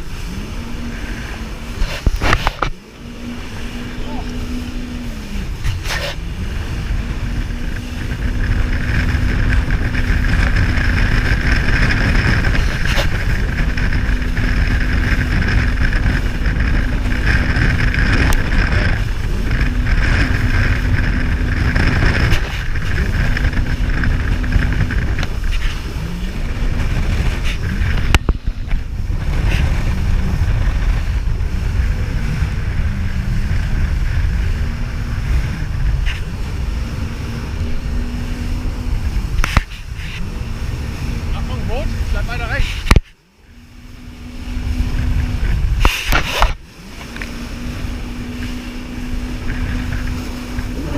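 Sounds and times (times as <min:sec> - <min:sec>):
jet ski engine running: 0:00.0 - 0:50.9
wind and water rumble on microphone: 0:00.0 - 0:50.9.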